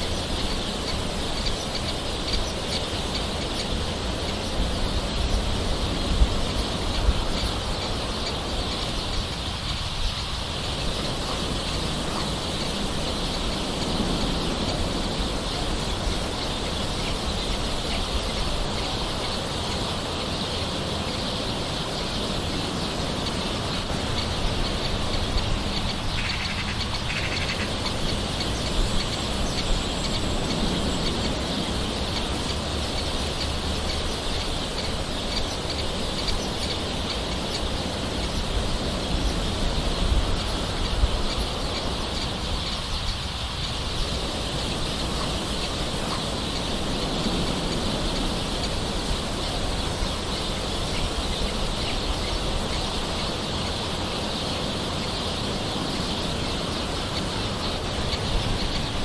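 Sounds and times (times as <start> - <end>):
birds calling: 0.0 - 59.0
gentle rain hiss: 0.0 - 59.0.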